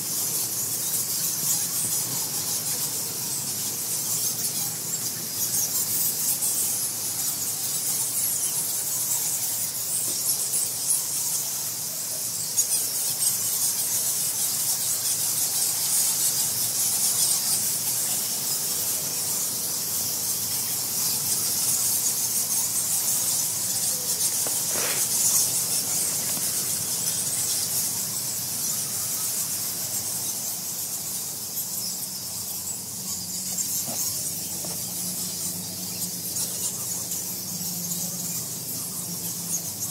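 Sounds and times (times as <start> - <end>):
bats squeaking and chittering: 0.0 - 39.9.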